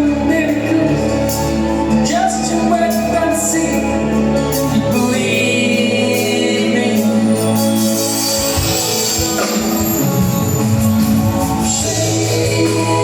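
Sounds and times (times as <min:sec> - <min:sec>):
band playing soft-rock ballad: 0:00.0 - 0:13.0
person singing: 0:00.0 - 0:13.0.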